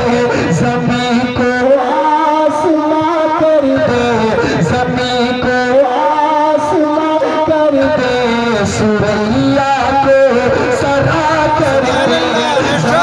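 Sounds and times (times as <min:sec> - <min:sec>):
man singing through loudspeakers: 0:00.0 - 0:13.0.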